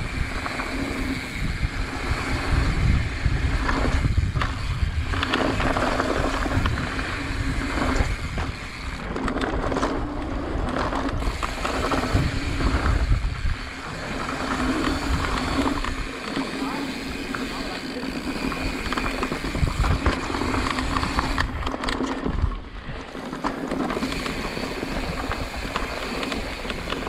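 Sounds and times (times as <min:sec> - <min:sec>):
wind buffeting microphone: 0:00.0 - 0:16.2, 0:16.8 - 0:27.0
bike rattling and clicking: 0:00.0 - 0:27.0.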